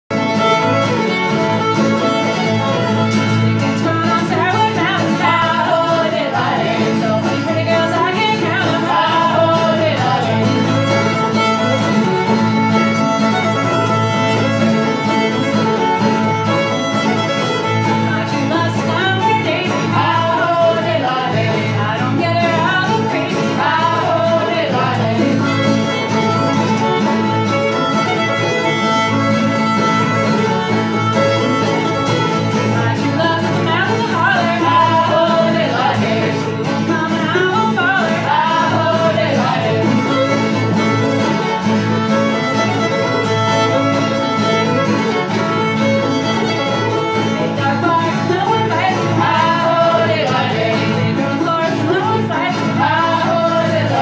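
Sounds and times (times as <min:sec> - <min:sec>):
acoustic guitar: 0:00.0 - 0:54.0
fiddle melody: 0:00.0 - 0:54.0
banjo: 0:00.1 - 0:54.0.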